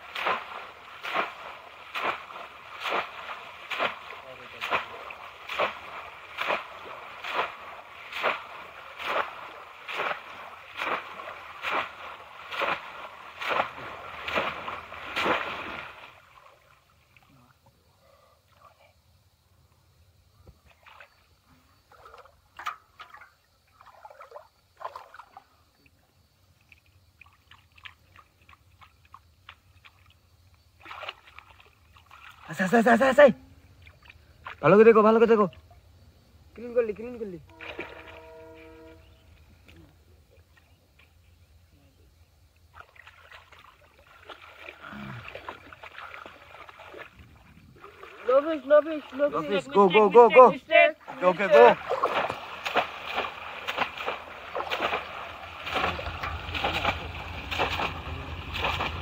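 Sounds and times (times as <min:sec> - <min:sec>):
water splashing and sloshing: 0:00.0 - 0:18.9, 0:20.4 - 0:41.7, 0:42.4 - 0:59.0.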